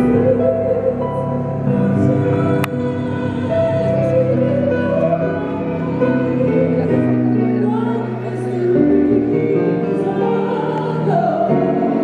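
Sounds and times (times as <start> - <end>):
keyboard chords: 0.0 - 12.0
woman singing into microphone: 0.0 - 12.0.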